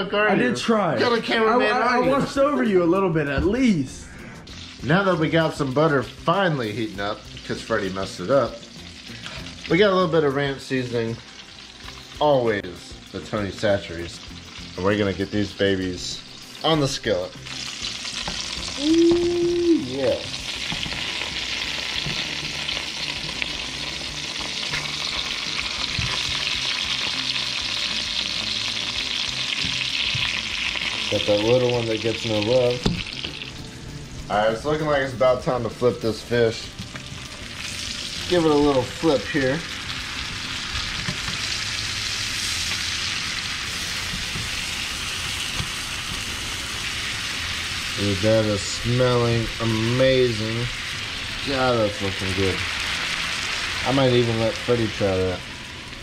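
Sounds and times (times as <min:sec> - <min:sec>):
fish sizzling in butter: 0:04.1 - 0:56.0.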